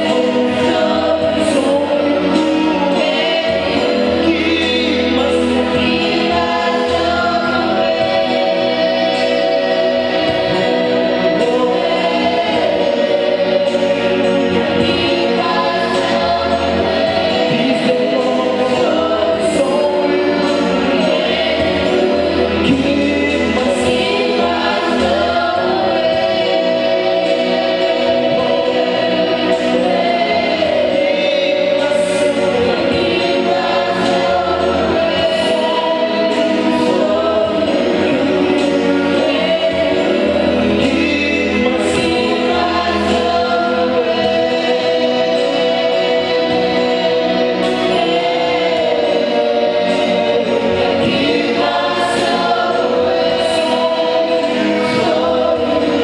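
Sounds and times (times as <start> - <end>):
gospel choir singing: 0.0 - 56.0
instrumental backing: 0.0 - 56.0.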